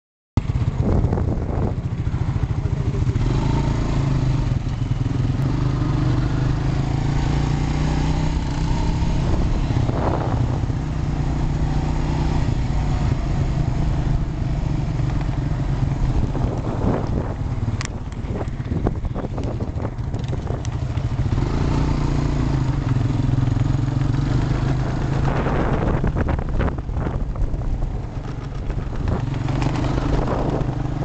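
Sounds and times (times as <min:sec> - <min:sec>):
quad bike engine running: 0:00.4 - 0:31.0.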